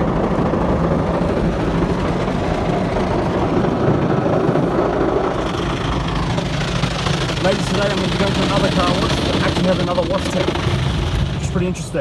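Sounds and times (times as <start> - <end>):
car wash brushes scrubbing: 0.0 - 11.7.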